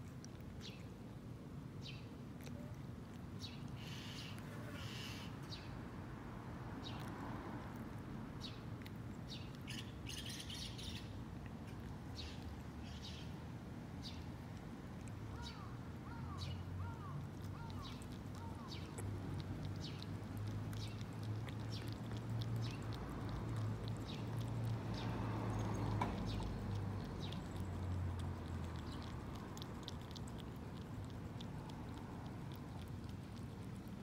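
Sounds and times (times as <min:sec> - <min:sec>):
cat chewing and licking wet food: 0:00.0 - 0:34.0.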